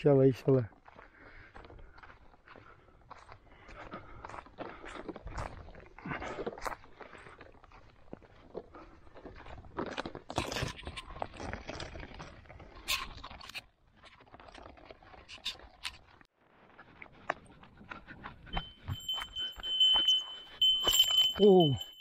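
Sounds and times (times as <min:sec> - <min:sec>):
footsteps crunching on stony ground: 0:00.0 - 0:22.0.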